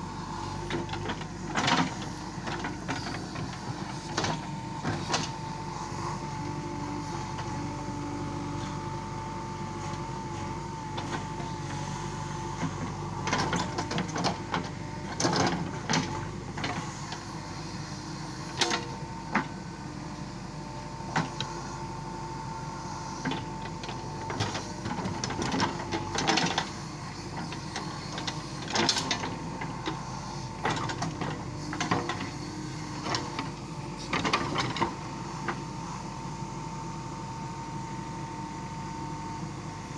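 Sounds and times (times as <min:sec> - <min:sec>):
diesel engine running with whine: 0:00.0 - 0:39.9.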